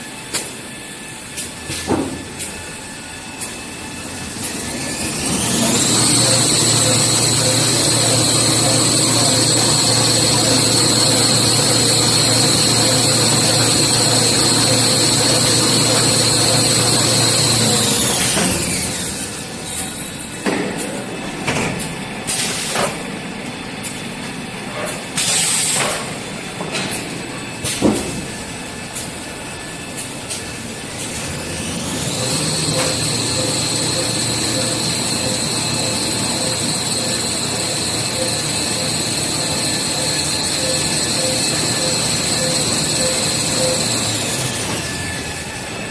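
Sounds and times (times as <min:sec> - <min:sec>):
machine whining and humming: 0:00.0 - 0:45.9.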